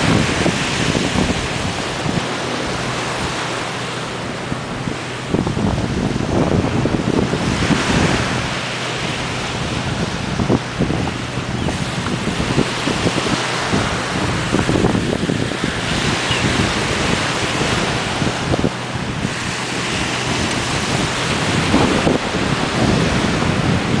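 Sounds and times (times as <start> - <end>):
ocean surf: 0.0 - 24.0
wind on microphone: 0.0 - 24.0.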